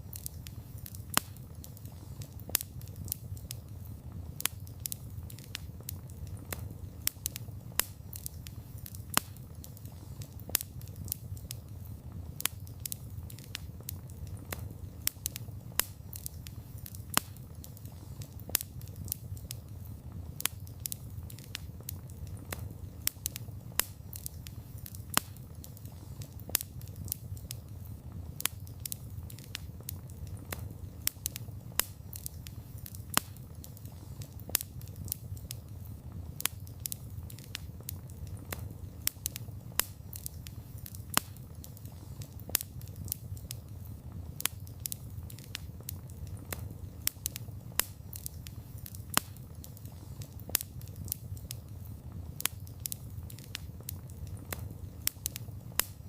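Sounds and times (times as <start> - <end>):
campfire popping and snapping: 0.0 - 56.0
low rumble of flames: 0.0 - 56.0.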